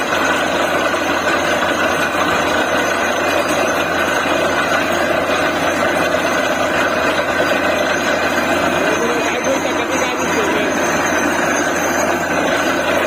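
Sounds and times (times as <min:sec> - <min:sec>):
drilling rig diesel engine: 0:00.0 - 0:13.0.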